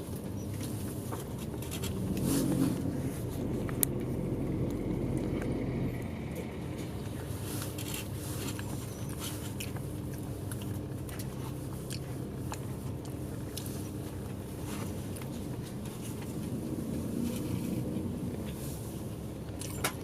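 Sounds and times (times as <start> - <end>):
bus diesel engine running: 0.0 - 20.0.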